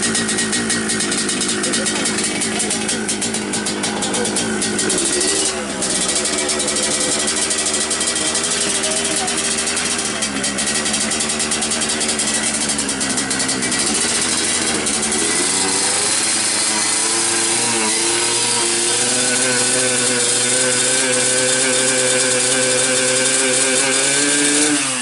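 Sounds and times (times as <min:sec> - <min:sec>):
two-stroke engine running: 0:00.0 - 0:25.0.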